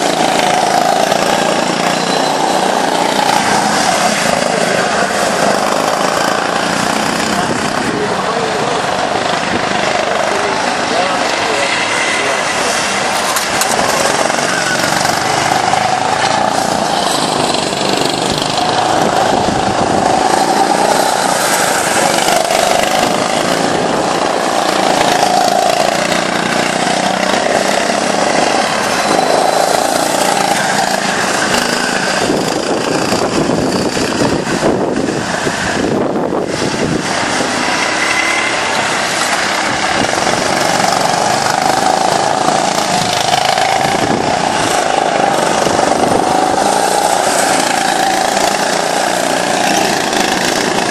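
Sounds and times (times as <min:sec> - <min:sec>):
go-kart engines buzzing: 0:00.0 - 0:50.9.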